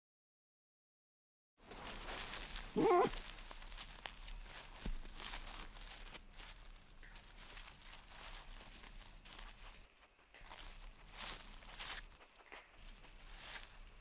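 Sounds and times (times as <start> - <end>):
dry leaves and grass rustling: 1.6 - 14.0.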